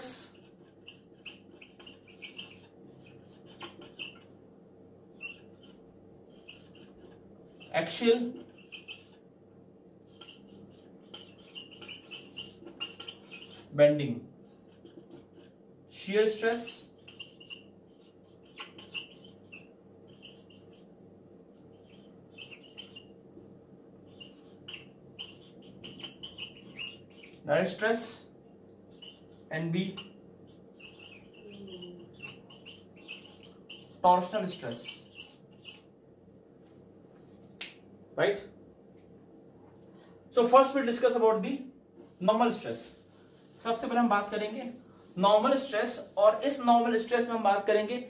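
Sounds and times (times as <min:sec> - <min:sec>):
marker squeaking on whiteboard: 0:00.0 - 0:04.4, 0:05.0 - 0:36.0, 0:36.7 - 0:38.6, 0:39.7 - 0:48.0
steady low hum: 0:00.0 - 0:48.0.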